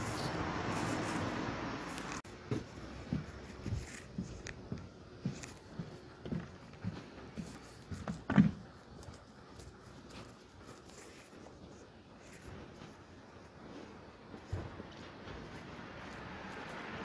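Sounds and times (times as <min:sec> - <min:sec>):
footsteps on snowy sidewalk: 0:00.0 - 0:17.0
street noise: 0:00.0 - 0:17.0.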